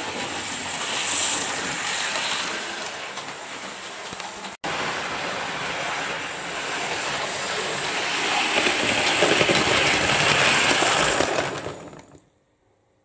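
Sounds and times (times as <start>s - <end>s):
model train rattling: 0.0s - 12.2s.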